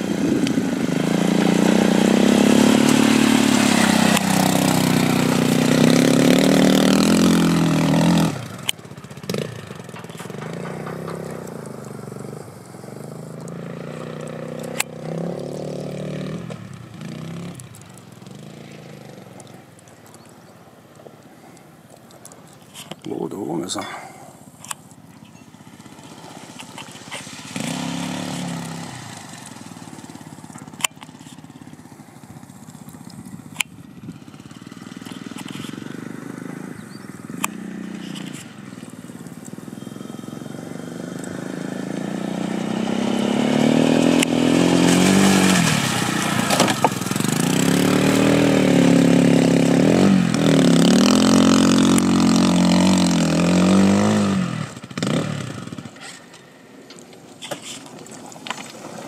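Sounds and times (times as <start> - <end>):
quad bike engine revving: 0.0 - 19.6, 23.2 - 56.4.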